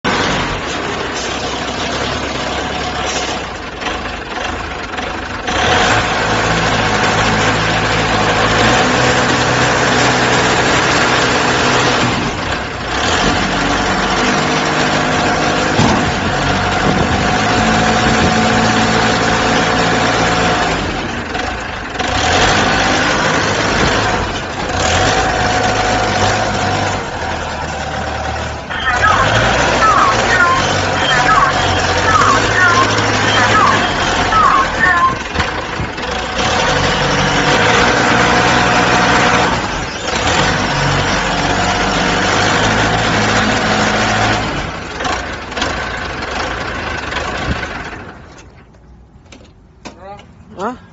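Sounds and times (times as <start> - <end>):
truck engine revving: 0.0 - 48.3.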